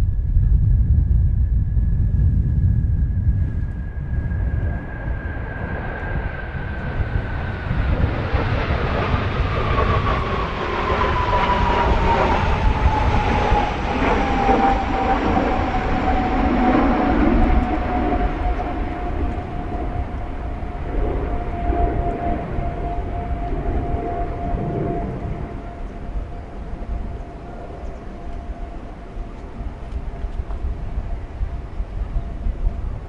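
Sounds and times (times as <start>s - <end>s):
jet aircraft passing by: 0.0s - 33.0s
wind rumble on microphone: 0.0s - 33.0s.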